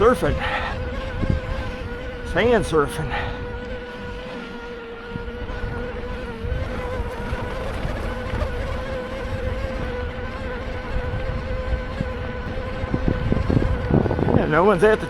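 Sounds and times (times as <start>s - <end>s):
bicycle tyres rumbling in sand: 0.0s - 15.0s
steady whine: 0.0s - 15.0s
wind on microphone: 0.0s - 15.0s.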